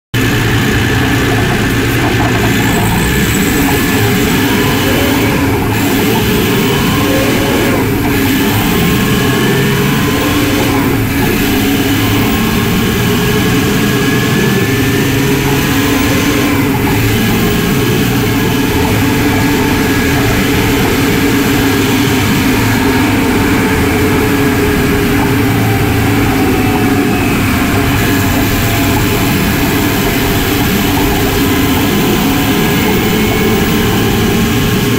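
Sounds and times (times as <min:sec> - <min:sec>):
diesel engine running: 0:00.1 - 0:34.9
turbocharger whistle: 0:00.2 - 0:34.9.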